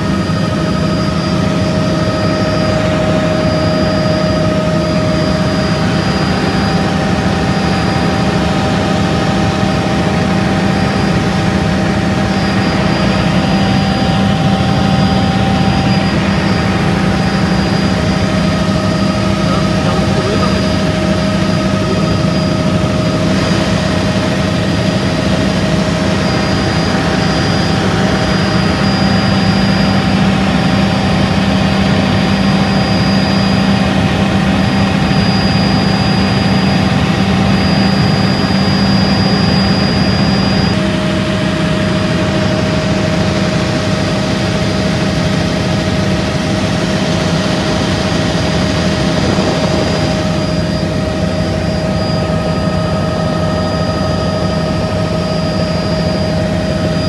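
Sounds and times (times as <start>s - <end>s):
high whining tones: 0.0s - 40.9s, 45.4s - 57.0s
helicopter engine and rotors: 0.0s - 57.0s.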